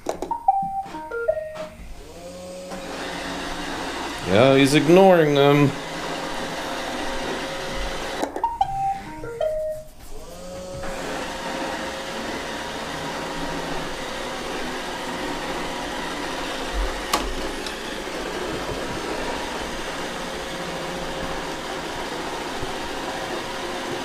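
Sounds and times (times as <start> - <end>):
robot vacuum running: 1.8 - 8.5, 10.0 - 24.0.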